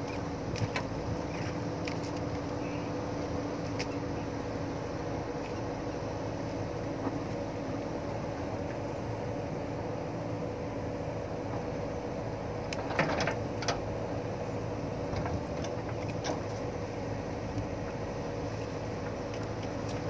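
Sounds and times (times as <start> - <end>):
diesel engine humming: 0.0 - 20.0.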